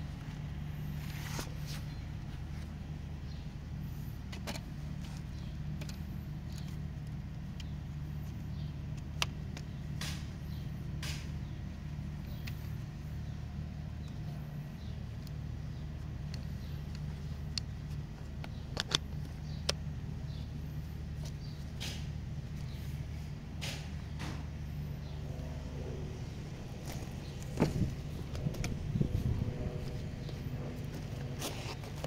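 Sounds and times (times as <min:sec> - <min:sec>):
low motor hum: 0:00.0 - 0:32.0.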